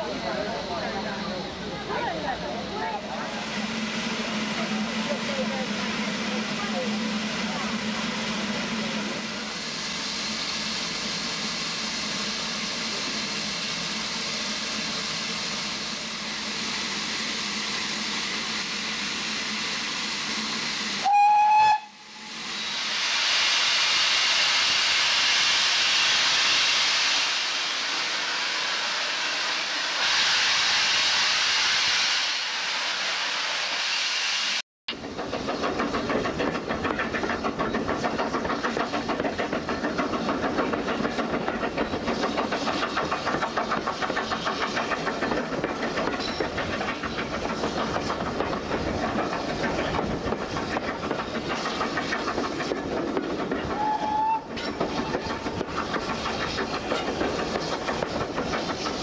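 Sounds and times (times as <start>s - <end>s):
rhythmic running of train: 0.0s - 59.0s
steam locomotive hissing steam: 0.0s - 59.0s.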